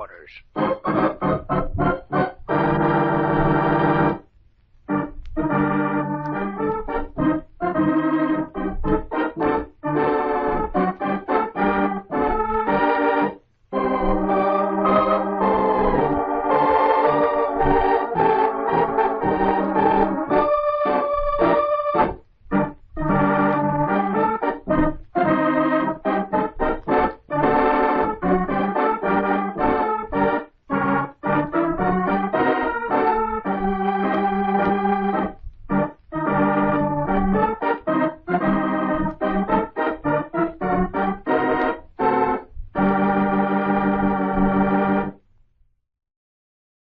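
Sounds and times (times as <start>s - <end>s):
organ chords: 0.0s - 45.2s.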